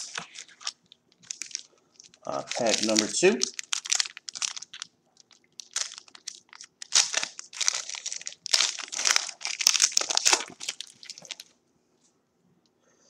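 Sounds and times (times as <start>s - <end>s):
card pack wrapper tearing and crinkling: 0.0s - 11.5s.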